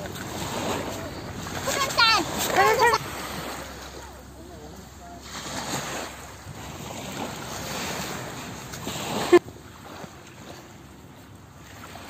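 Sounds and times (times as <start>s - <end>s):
surf on a beach: 0.0s - 12.0s
wind: 0.0s - 12.0s.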